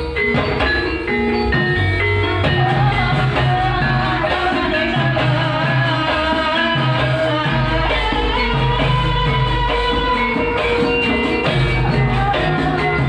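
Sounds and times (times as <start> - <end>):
drums playing: 0.0 - 13.0
struck pitched percussion: 0.0 - 13.0
person singing wavering melody: 1.0 - 13.0.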